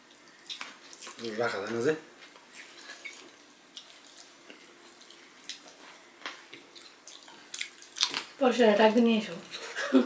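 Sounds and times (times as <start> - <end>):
wet eating sounds: 0.0 - 8.4.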